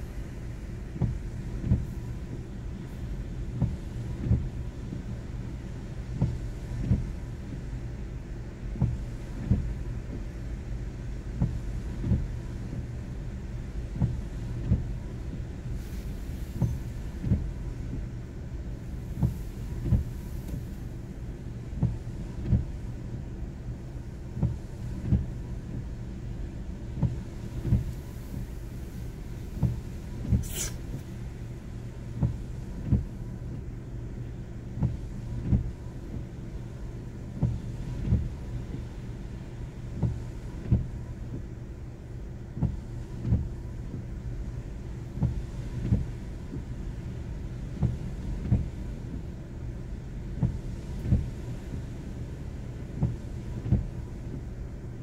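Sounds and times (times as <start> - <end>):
muffled surf and wind rumble: 0.0 - 55.0.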